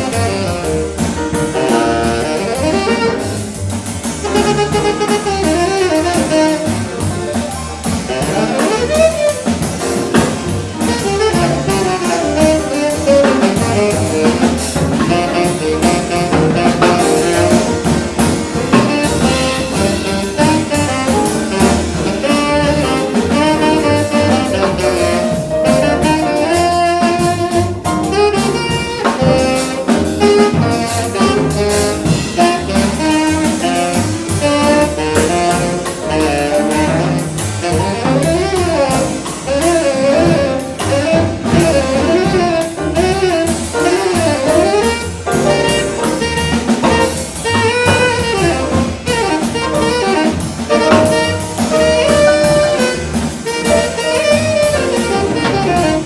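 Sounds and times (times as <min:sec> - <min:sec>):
double bass: 0:00.0 - 0:56.0
drum kit: 0:00.0 - 0:56.0
piano: 0:00.0 - 0:56.0
saxophone: 0:00.0 - 0:56.0.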